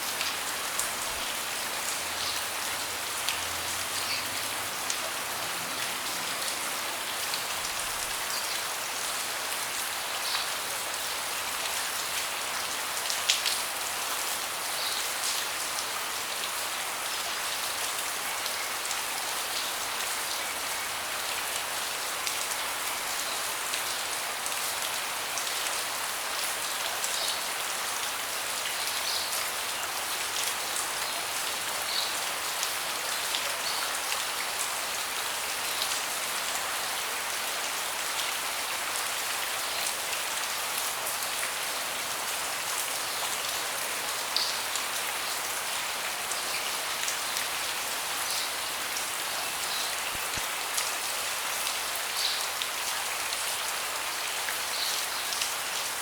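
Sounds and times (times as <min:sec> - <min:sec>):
rain falling on a deck: 0:00.0 - 0:56.0.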